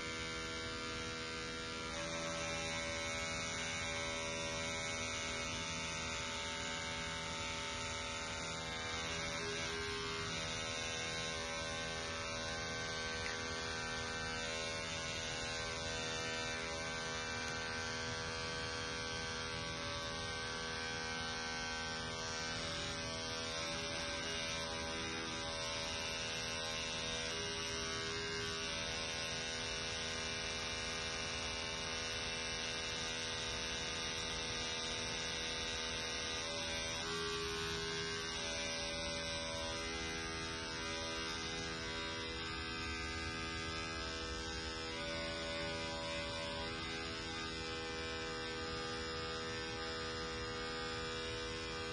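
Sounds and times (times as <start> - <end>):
electric toothbrush buzzing: 0.0 - 51.9.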